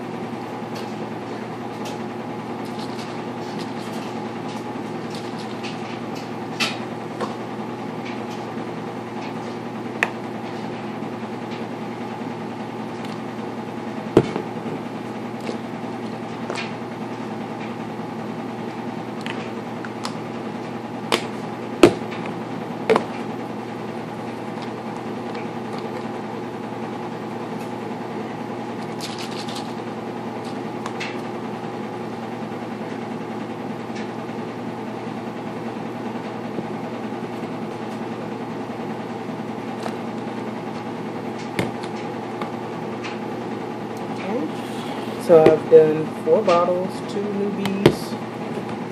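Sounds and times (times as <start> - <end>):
appliance hum: 0.0 - 48.9.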